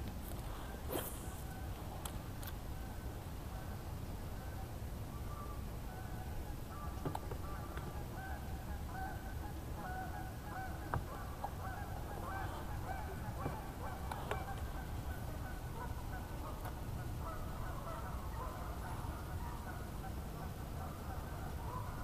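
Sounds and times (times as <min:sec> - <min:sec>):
birds calling: 0:04.4 - 0:22.0.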